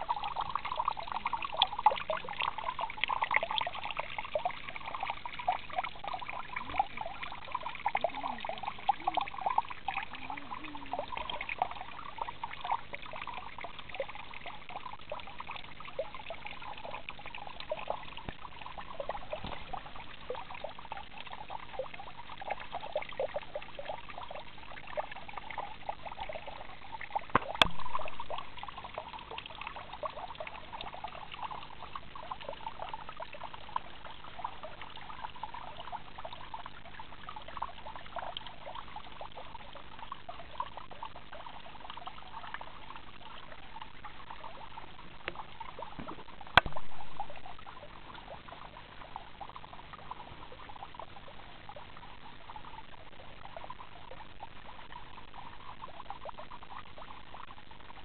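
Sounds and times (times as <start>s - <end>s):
stream trickling and babbling: 0.0s - 58.0s.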